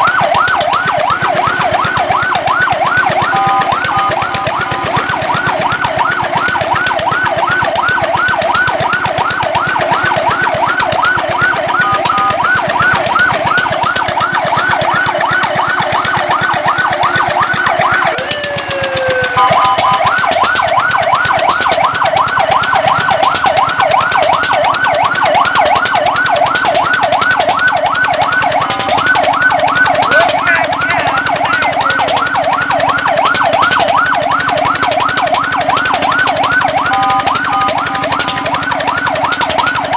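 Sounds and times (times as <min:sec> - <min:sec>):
fire truck siren yelp: 0:00.0 - 0:39.9
short falling siren tone: 0:00.0 - 0:39.9.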